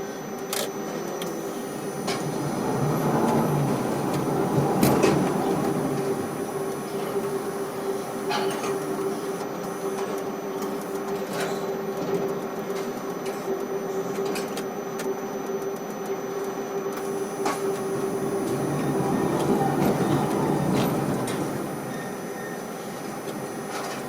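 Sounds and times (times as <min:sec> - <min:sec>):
crane machinery humming: 0:00.0 - 0:24.0.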